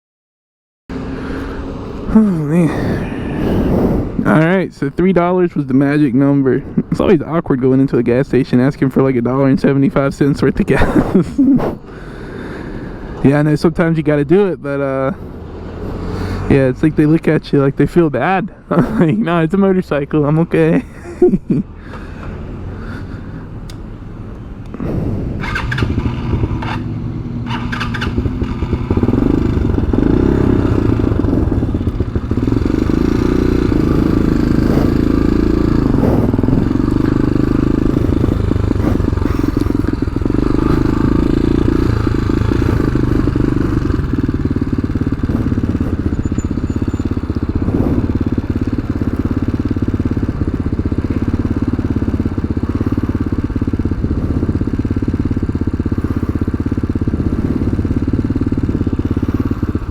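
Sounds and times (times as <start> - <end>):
motorcycle engine droning: 0.9 - 59.9.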